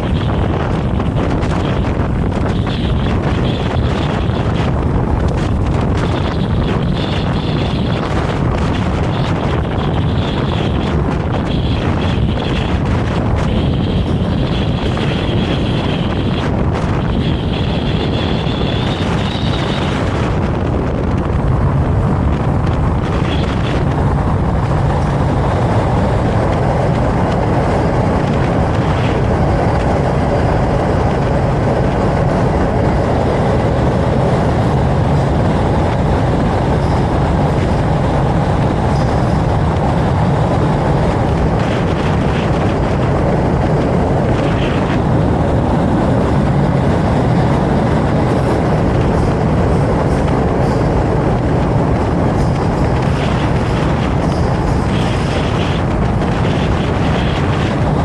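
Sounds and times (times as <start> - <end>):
tram wheels rumbling on rails: 0.0 - 58.0.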